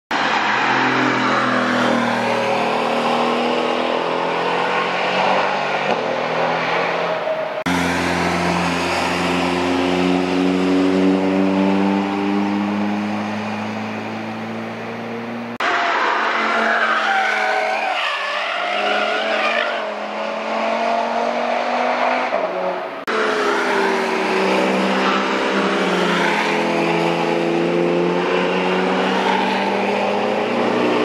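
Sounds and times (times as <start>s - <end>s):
car engines accelerating: 0.1s - 31.0s.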